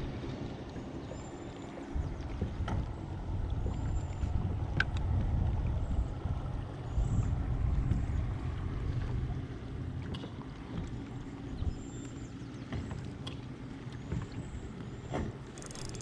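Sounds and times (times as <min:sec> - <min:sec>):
low rumbling on a boat: 0:00.0 - 0:16.0.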